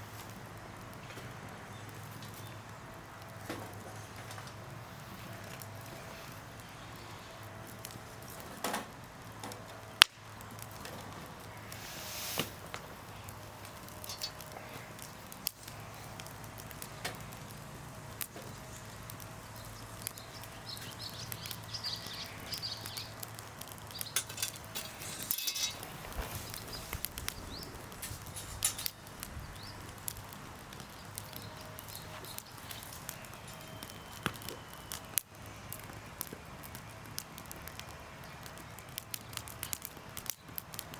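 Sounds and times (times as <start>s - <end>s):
campfire crackling: 0.0s - 40.9s
loud crack from fire: 0.0s - 40.9s
sharp pops from fire: 0.0s - 40.9s.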